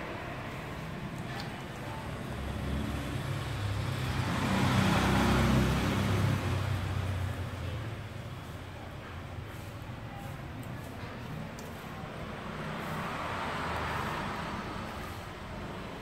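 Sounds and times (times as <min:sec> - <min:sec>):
motor vehicle passing by: 0:00.0 - 0:08.5, 0:10.8 - 0:16.0.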